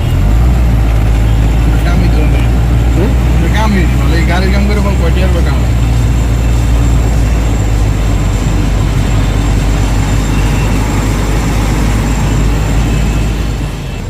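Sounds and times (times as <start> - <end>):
minivan engine and road rumble: 0.0 - 14.0.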